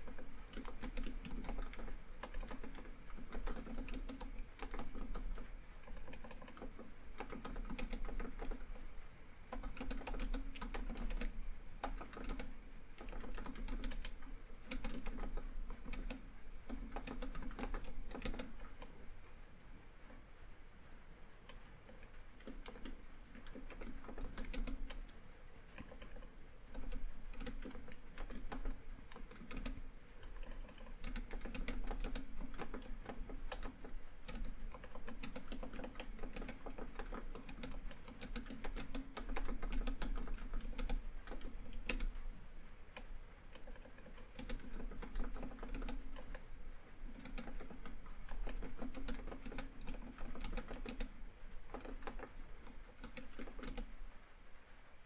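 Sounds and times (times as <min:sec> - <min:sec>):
laptop keyboard typing: 0:00.0 - 0:08.9, 0:09.5 - 0:19.1, 0:21.4 - 0:54.0.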